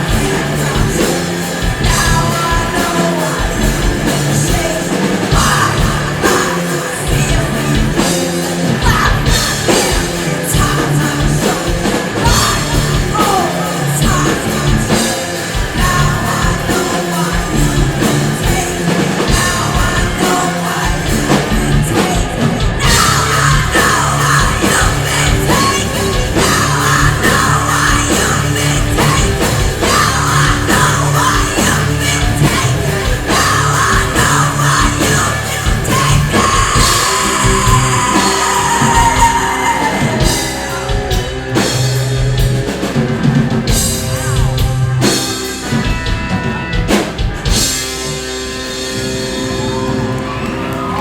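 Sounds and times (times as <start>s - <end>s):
heavy rock band playing: 0.0s - 51.0s.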